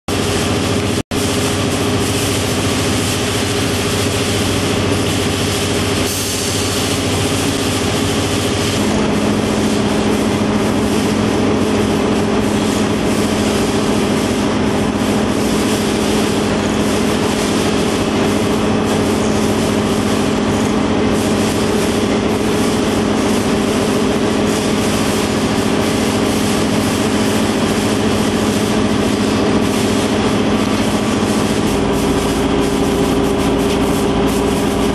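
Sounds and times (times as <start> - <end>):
machine hum: 0.1 - 34.9.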